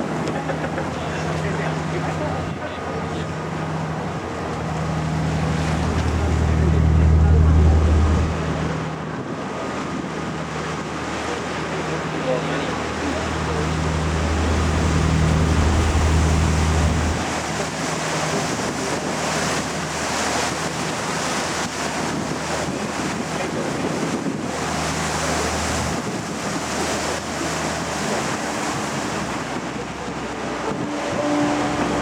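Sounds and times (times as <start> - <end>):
low hum of ship engine: 0.0 - 32.0
wind and water rushing: 0.0 - 32.0.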